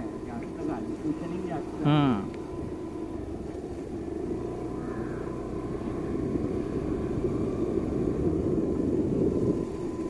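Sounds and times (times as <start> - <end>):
rumble of riding on rough road: 0.0 - 10.0
scooter engine running: 0.0 - 10.0.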